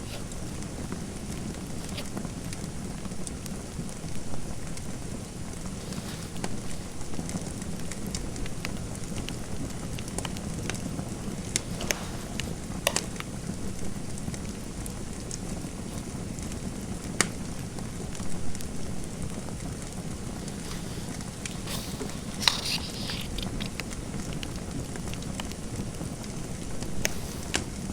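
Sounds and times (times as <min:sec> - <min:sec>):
fireplace fire crackling: 0:00.0 - 0:27.9.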